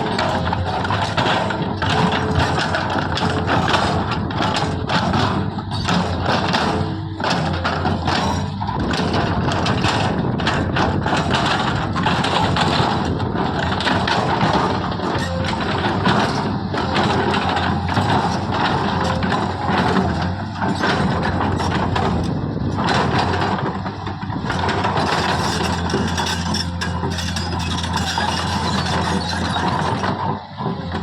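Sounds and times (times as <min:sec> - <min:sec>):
diesel engine running: 0:00.0 - 0:31.0
mechanical clatter and knocking: 0:00.0 - 0:31.0.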